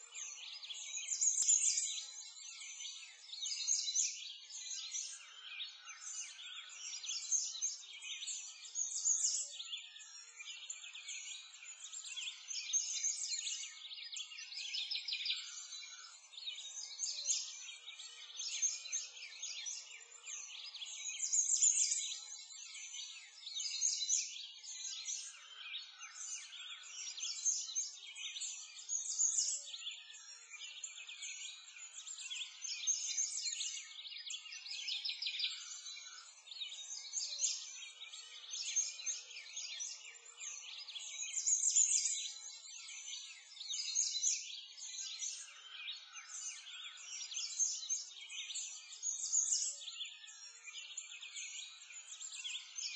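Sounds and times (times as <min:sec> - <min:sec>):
small birds chirping and twittering: 0:00.0 - 0:52.9.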